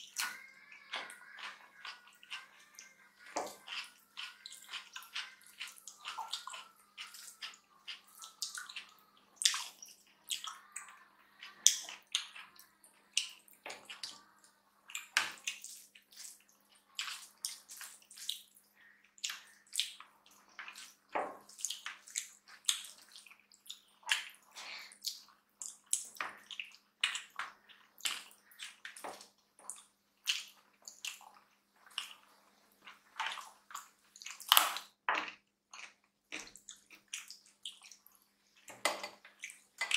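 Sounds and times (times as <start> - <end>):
fingers mashing wet food: 0.0 - 39.9
open-mouthed chewing: 0.0 - 39.9.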